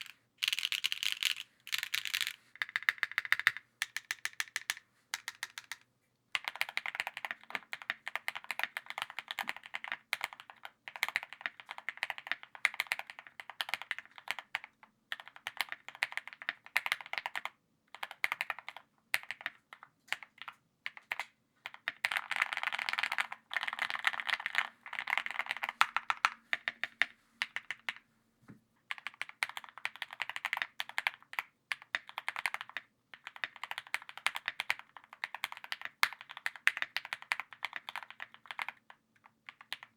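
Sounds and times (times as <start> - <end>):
mechanical keyboard typing: 0.0 - 5.8, 6.4 - 27.9, 28.9 - 39.9.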